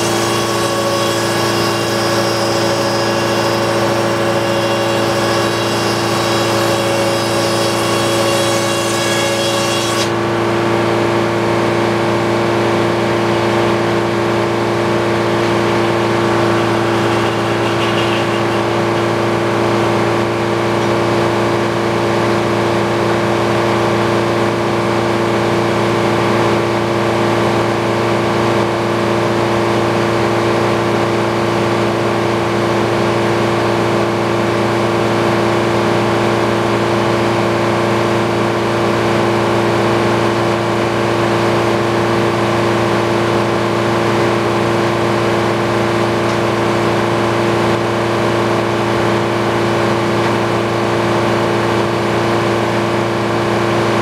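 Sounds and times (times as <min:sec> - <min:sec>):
sawmill humming: 0:00.0 - 0:54.0.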